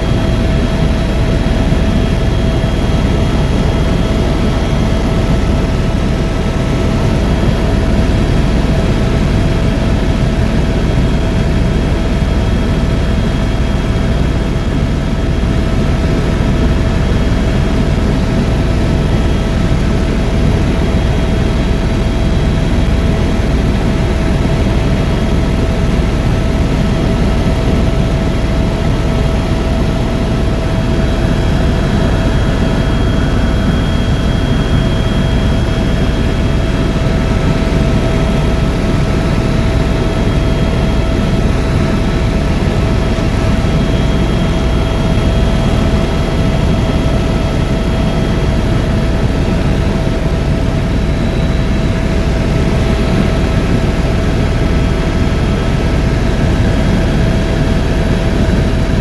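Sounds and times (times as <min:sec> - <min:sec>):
constant high whine: 0:00.0 - 0:59.0
helicopter rotor and engine rumble: 0:00.0 - 0:59.0.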